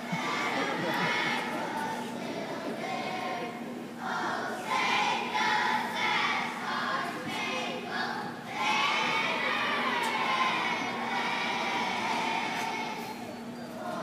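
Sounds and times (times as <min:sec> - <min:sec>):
chorus singing: 0:00.0 - 0:14.0.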